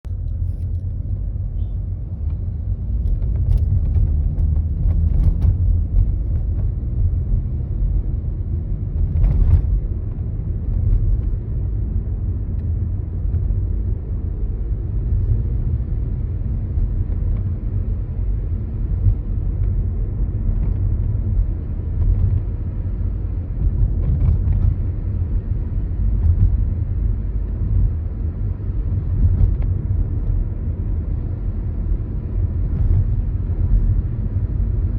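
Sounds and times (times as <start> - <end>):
car road rumble: 0.0 - 34.9.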